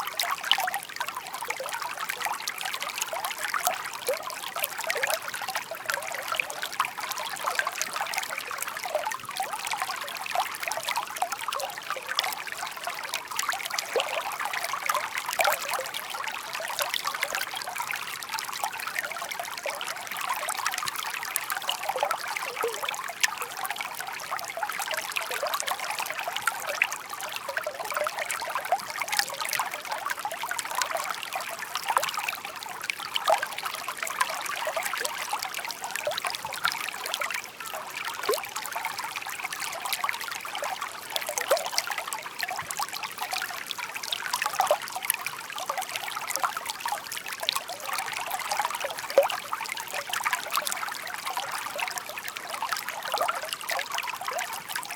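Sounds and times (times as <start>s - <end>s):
brook babbling over stones: 0.0s - 54.9s.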